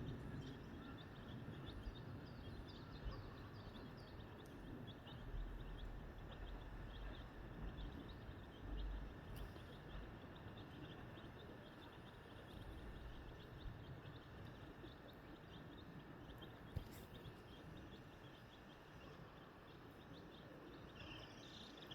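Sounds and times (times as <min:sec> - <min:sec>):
low background rumble: 0:00.0 - 0:21.0
chicks peeping: 0:00.4 - 0:21.9.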